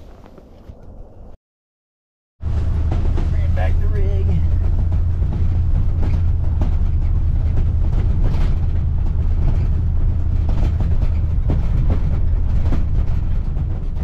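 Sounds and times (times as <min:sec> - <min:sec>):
vehicle engine rumble: 0:00.0 - 0:01.4, 0:02.4 - 0:14.0
rattles and knocks: 0:02.4 - 0:14.0.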